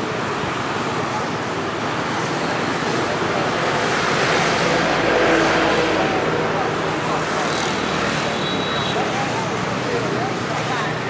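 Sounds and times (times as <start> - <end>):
road traffic: 0.0 - 11.0
wind: 0.0 - 11.0.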